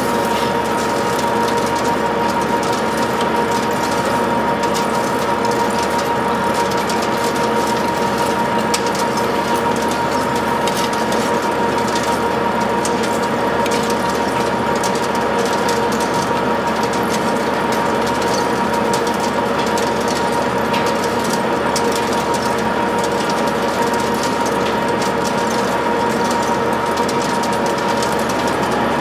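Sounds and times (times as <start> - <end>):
lathe mechanical clatter: 0.0 - 29.0.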